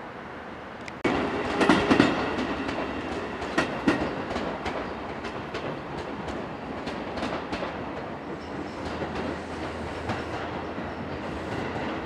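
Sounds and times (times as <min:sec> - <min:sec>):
electric train passing: 0:00.1 - 0:12.0.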